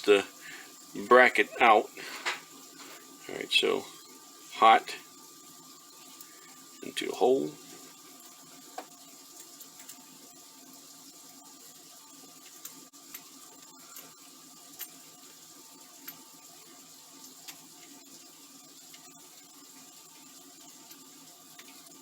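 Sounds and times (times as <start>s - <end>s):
faint room hum and hiss: 0.0s - 22.0s.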